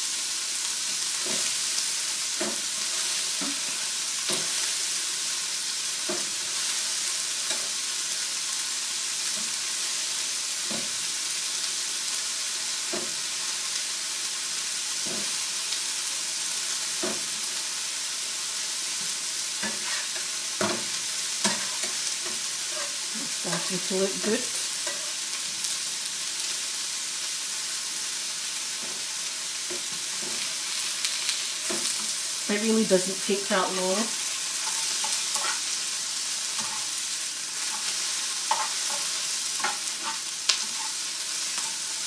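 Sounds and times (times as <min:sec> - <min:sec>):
sausages sizzling in frying pans: 0:00.0 - 0:42.0.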